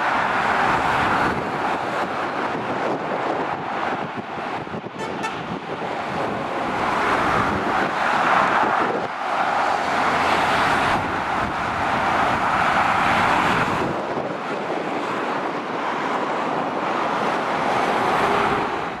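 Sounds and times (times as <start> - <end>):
motorway traffic rushing: 0.0 - 19.0.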